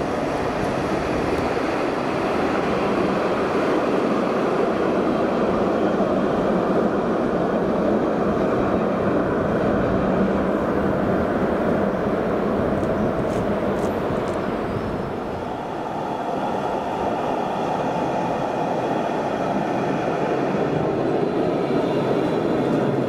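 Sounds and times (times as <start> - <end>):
tram running past: 0.0 - 23.0.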